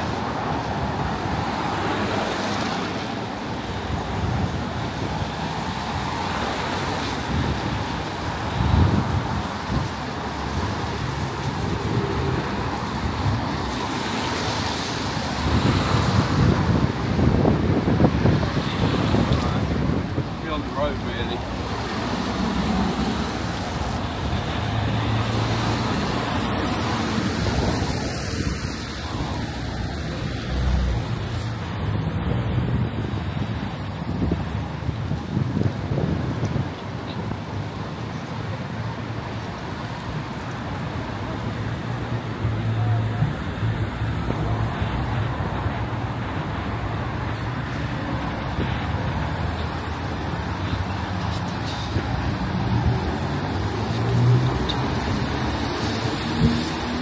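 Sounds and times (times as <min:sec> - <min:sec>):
road traffic noise: 0:00.0 - 0:57.0
wind on microphone: 0:00.0 - 0:57.0.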